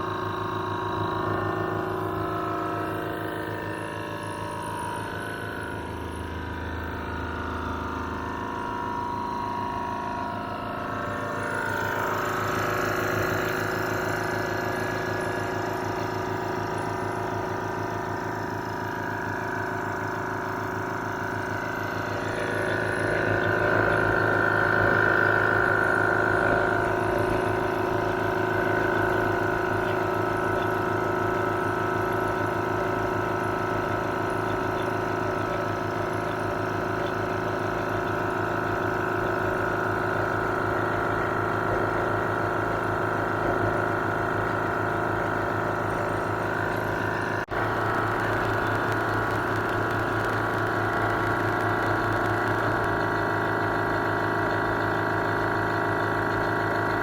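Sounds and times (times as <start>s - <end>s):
air compressor pump chattering: 0.0s - 57.0s.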